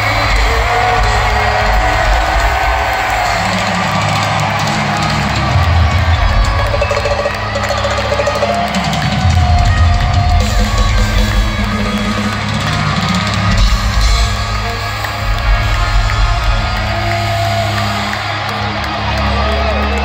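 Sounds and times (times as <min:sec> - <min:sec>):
bass drum: 0:00.0 - 0:17.4
heavy metal band playing live: 0:00.0 - 0:20.0.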